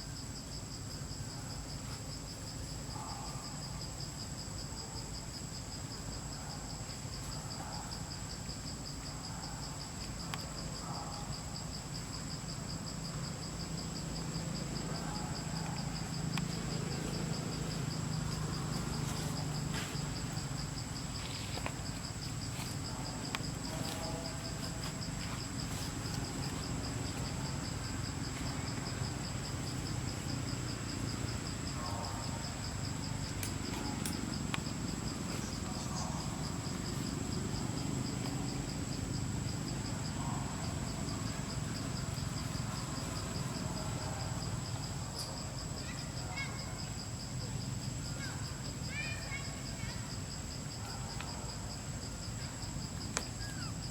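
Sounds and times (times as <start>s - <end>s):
shrill insects trilling: 0.0s - 53.9s.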